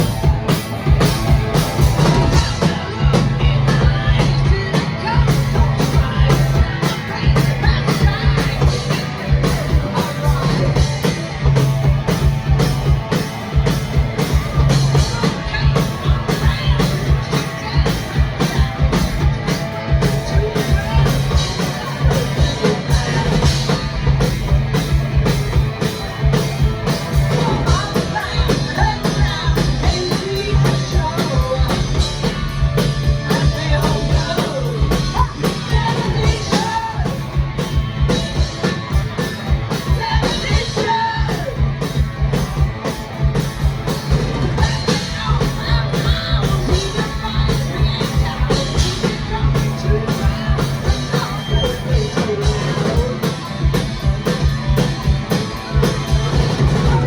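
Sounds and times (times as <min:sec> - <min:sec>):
bass guitar: 0:00.0 - 0:57.0
drums: 0:00.0 - 0:57.0
electric guitar: 0:00.0 - 0:57.0
person singing: 0:00.0 - 0:57.0.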